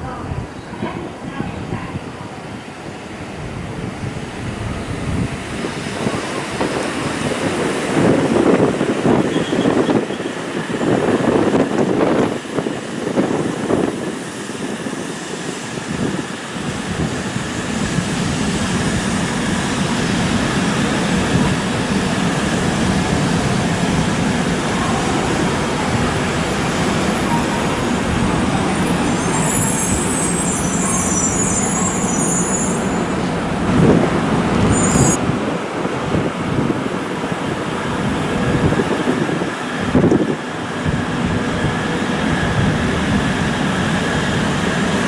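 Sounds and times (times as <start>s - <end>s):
high-speed train rushing by: 0.0s - 45.0s.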